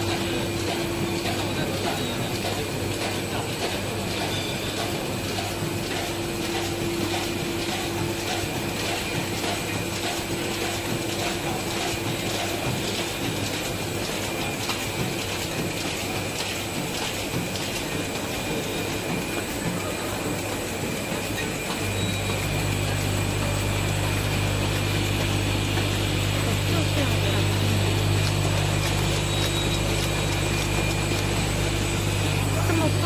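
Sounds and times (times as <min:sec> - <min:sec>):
cartoning machine clattering: 0:00.0 - 0:33.0
machine hum: 0:05.0 - 0:33.0.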